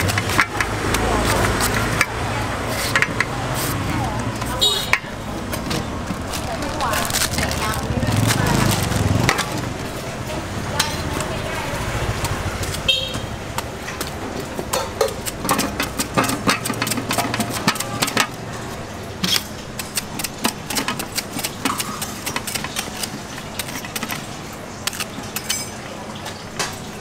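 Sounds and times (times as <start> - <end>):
knife scraping and slicing fruit: 0.0 - 10.0, 14.0 - 25.8.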